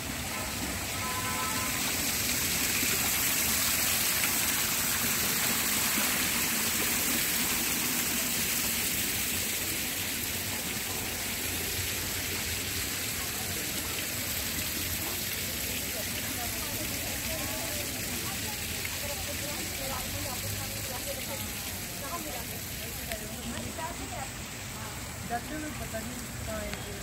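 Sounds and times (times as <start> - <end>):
fountain water splashing: 0.0 - 27.0.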